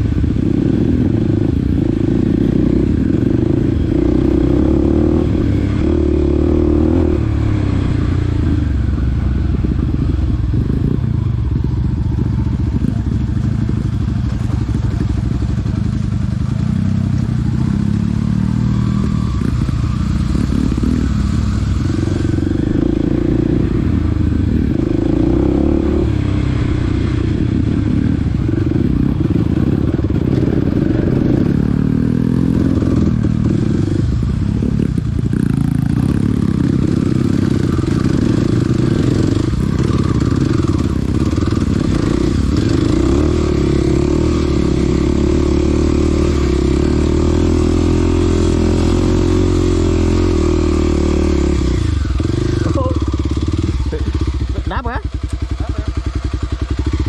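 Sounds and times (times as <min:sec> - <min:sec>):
dirt bike engine revving: 0:00.0 - 0:11.8, 0:16.5 - 0:57.0.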